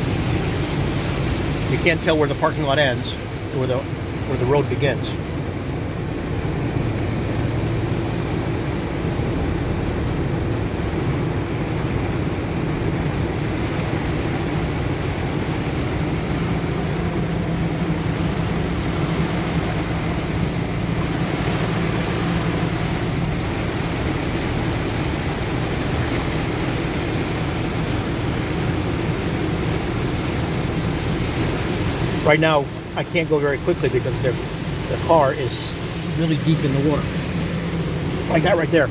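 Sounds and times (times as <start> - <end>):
truck engine hum: 0.0 - 38.9
water rushing against truck: 0.0 - 38.9.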